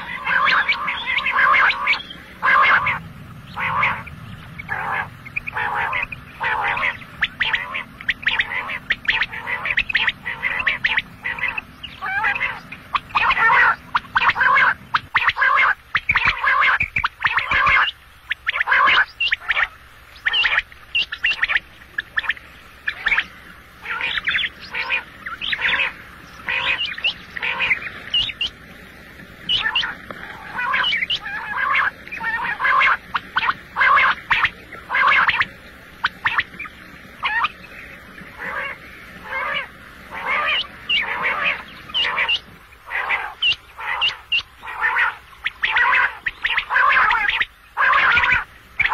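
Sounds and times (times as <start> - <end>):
quail calling: 0.0 - 48.9.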